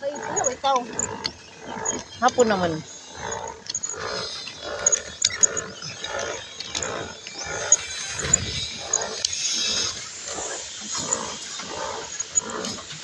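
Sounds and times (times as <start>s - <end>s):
rhythmic whooshing of water bike: 0.0s - 13.0s.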